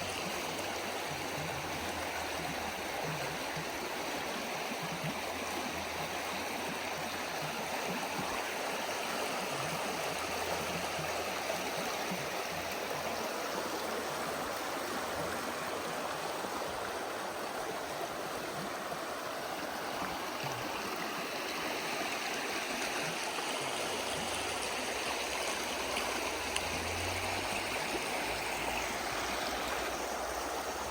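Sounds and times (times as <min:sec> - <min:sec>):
stream rushing: 0:00.0 - 0:30.9.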